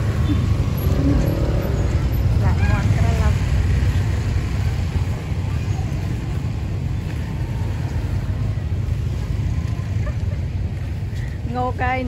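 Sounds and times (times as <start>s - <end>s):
market street noise: 0.0s - 12.0s.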